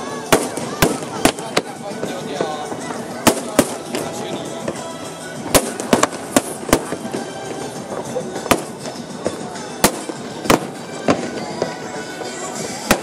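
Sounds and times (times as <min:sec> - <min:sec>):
crowd voices: 0:00.0 - 0:13.0
fireworks bursting: 0:00.0 - 0:13.0
music: 0:00.0 - 0:13.0.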